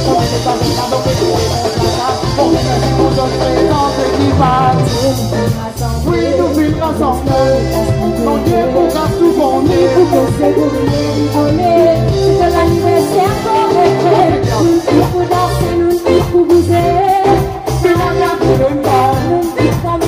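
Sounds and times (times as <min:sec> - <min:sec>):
bass guitar: 0:00.0 - 0:20.0
drum kit: 0:00.0 - 0:20.0
electric guitar: 0:00.0 - 0:20.0
keyboard: 0:00.0 - 0:20.0
person singing: 0:00.0 - 0:20.0.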